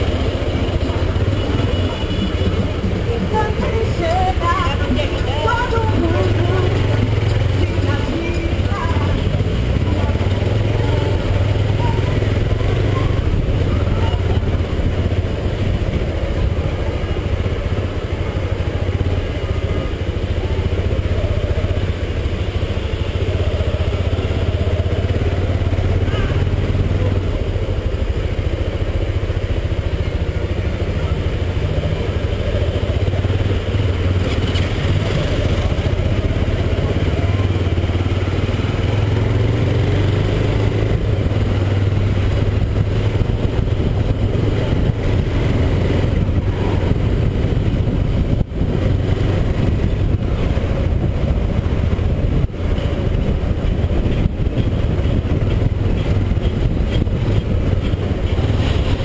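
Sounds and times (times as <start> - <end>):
motorcycle engine running: 0.0 - 59.0
road noise: 0.0 - 59.0
wind noise: 0.0 - 59.0.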